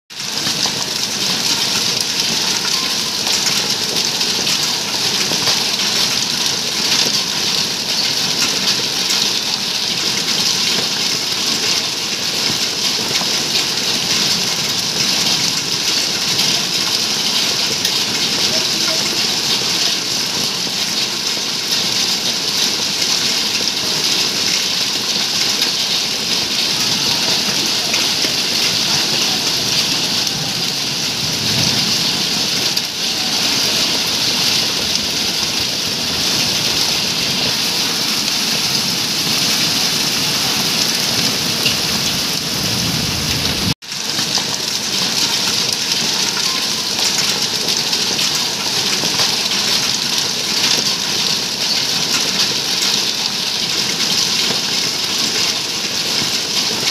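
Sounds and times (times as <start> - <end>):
heavy rain and hail on paving: 0.1 - 56.9.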